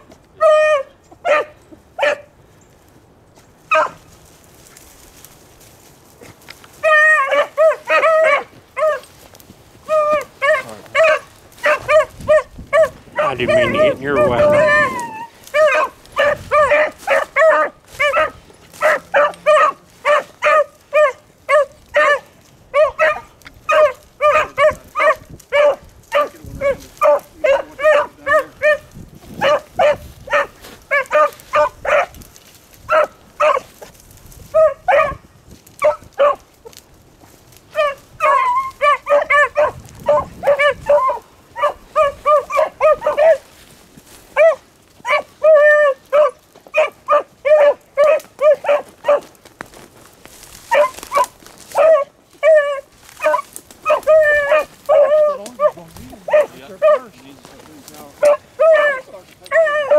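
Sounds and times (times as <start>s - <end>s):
hounds baying: 0.0s - 2.3s, 3.6s - 4.1s, 6.2s - 49.4s, 50.5s - 59.9s.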